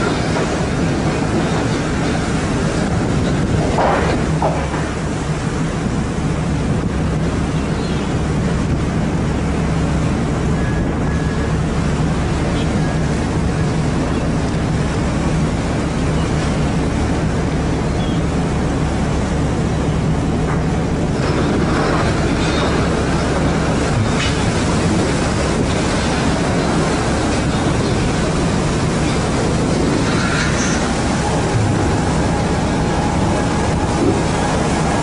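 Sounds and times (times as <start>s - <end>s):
boat engine humming: 0.0s - 35.0s
water noise: 0.0s - 35.0s
wind: 0.0s - 35.0s.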